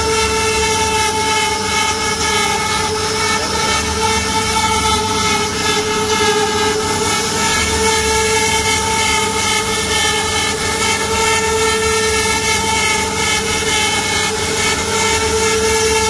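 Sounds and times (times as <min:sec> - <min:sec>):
bit cutting wood: 0:00.0 - 0:16.0
router spindle whine: 0:00.0 - 0:16.0.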